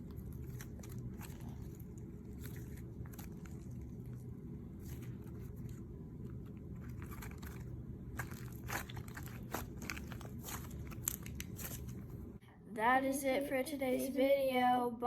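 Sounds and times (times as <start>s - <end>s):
hands squishing slime: 0.0s - 12.2s
steady low hum: 0.0s - 15.0s.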